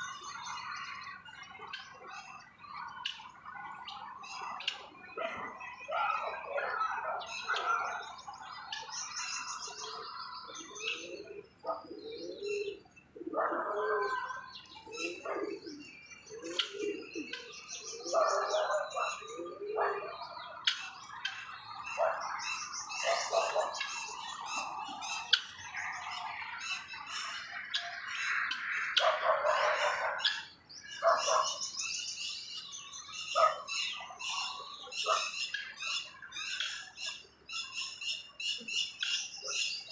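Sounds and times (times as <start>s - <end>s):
harsh bird calls: 0.0s - 39.9s
high bird chirps and trills: 0.0s - 39.9s.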